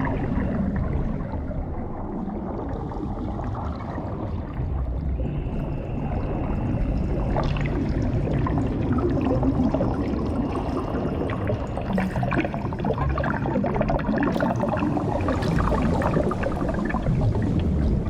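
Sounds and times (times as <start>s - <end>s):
bubbling and gurgling: 0.0s - 18.0s
underwater low rumble: 0.0s - 18.0s.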